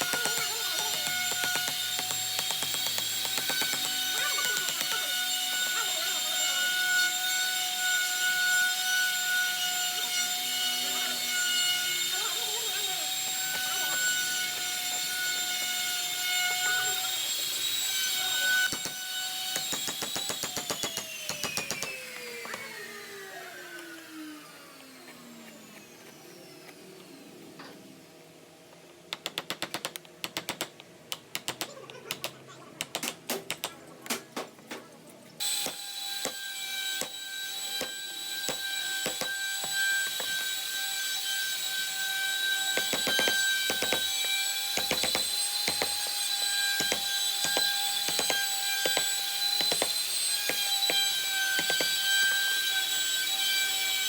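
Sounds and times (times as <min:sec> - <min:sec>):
power tool motor whining: 0:00.0 - 0:27.6, 0:35.4 - 0:54.0.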